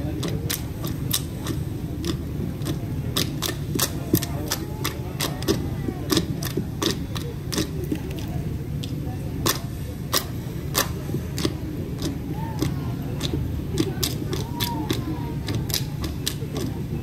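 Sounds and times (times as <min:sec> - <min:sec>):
faint voices: 0:00.0 - 0:17.0
low steady rumble: 0:00.0 - 0:17.0.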